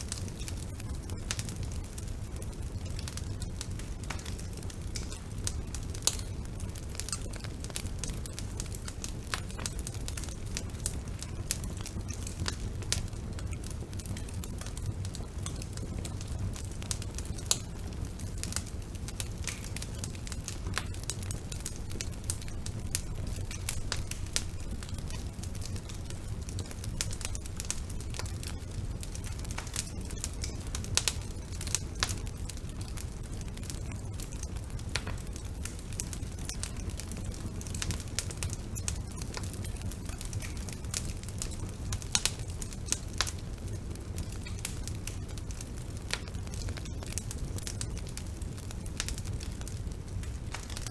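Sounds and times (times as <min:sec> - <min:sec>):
fire crackling in fireplace: 0:00.0 - 0:50.9.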